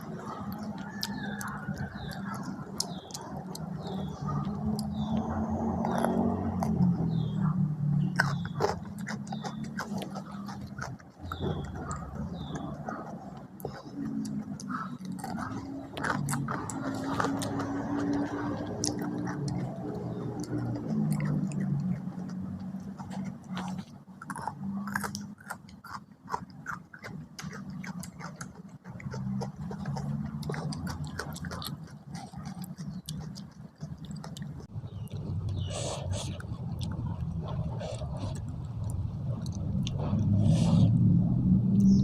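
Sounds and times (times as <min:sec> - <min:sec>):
person chewing food: 0:00.0 - 0:42.0
wet mouth clicks: 0:00.0 - 0:42.0.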